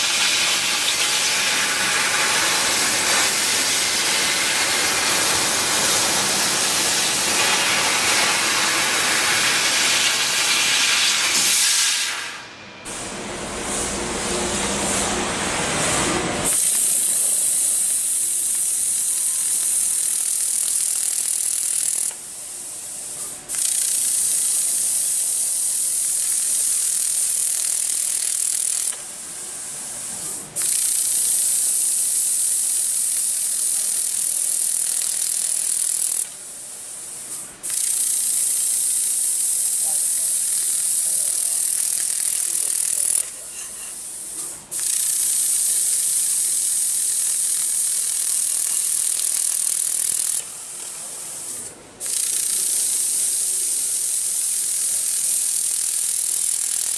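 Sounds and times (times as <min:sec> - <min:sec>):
laser cutter hissing: 0:00.0 - 0:15.4, 0:16.4 - 0:56.9.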